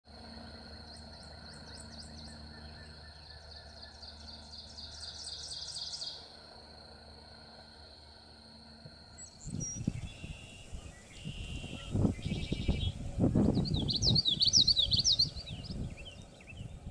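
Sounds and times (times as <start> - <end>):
low hum: 0.1 - 16.9.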